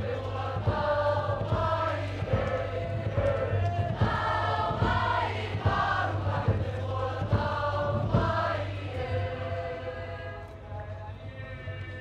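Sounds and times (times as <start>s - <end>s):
group singing in harmony: 0.0s - 12.0s.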